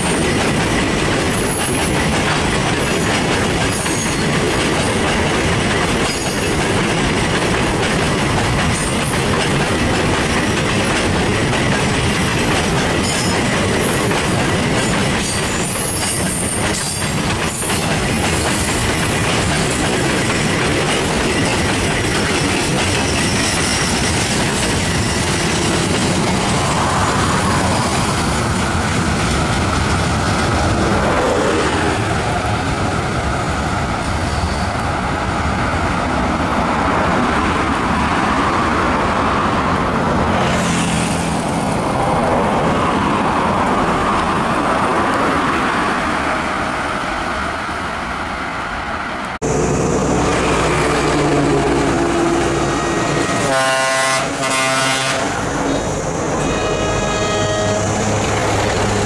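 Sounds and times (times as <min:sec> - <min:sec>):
diesel locomotive engine: 0:00.0 - 0:59.0
freight train rumbling past: 0:00.0 - 0:59.0.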